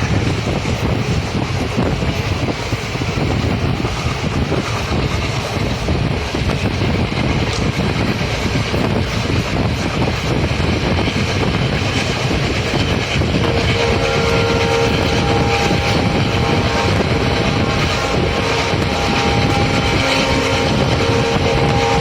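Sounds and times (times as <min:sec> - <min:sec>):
train wheels rumbling on track: 0:00.0 - 0:22.0
wind rushing: 0:00.0 - 0:22.0.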